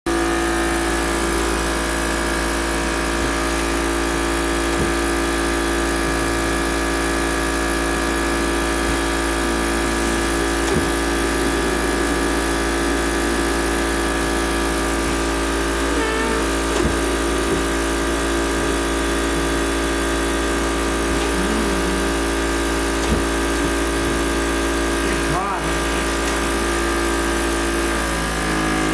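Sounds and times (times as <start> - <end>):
machine blower humming: 0.1 - 28.9.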